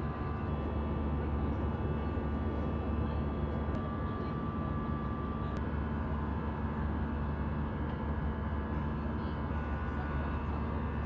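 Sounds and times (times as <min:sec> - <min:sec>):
faint steady whine: 0:00.0 - 0:11.0
jet engines and airflow rumble: 0:00.0 - 0:11.0.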